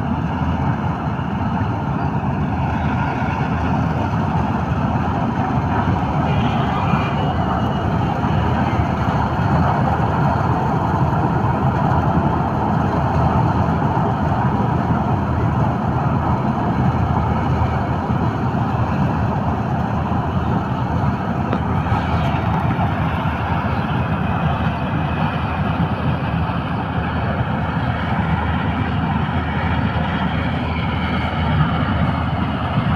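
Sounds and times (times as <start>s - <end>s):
combine harvester engine drone: 0.0s - 32.9s.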